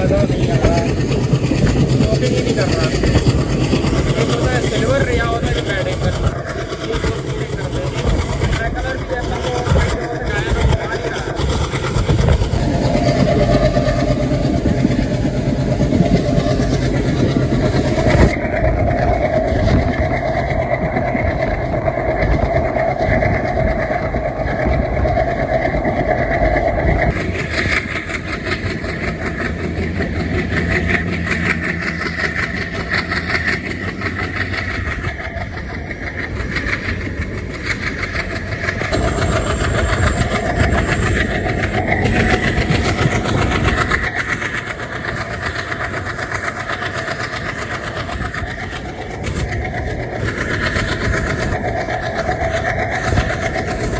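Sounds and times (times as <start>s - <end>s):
diesel locomotive engine drone: 0.0s - 53.9s
rhythmic rail clatter: 0.0s - 53.9s.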